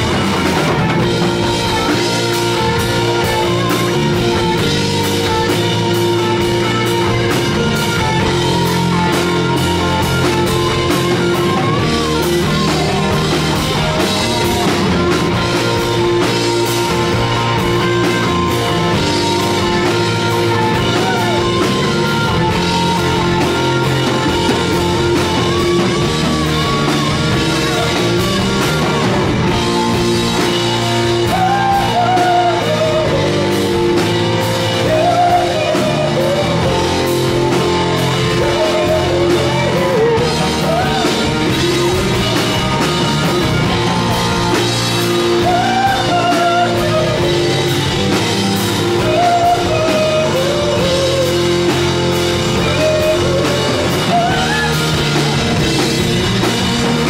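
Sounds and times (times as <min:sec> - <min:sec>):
bending electric guitar lead: 0:00.0 - 0:57.0
live rock band playing: 0:00.0 - 0:57.0.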